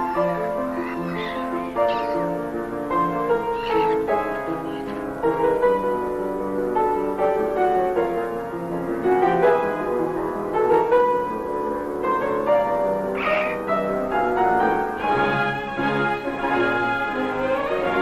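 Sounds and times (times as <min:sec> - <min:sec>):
chamber ensemble music with piano: 0:00.0 - 0:18.0.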